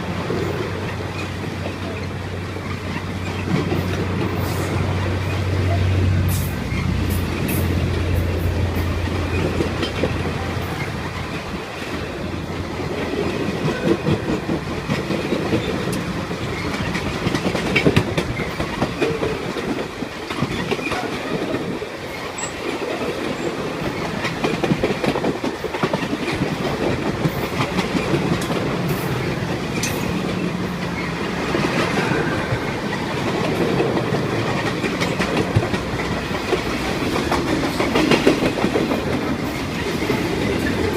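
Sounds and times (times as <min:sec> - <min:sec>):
train wheels clacking on rails: 0:00.0 - 0:40.9.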